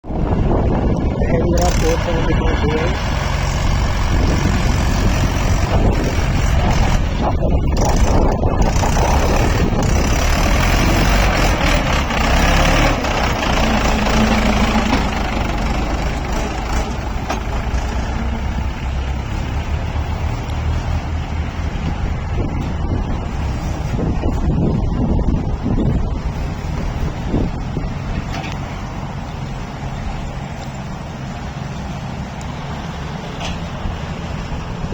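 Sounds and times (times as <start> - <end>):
tractor engine running under load: 0.0 - 34.9.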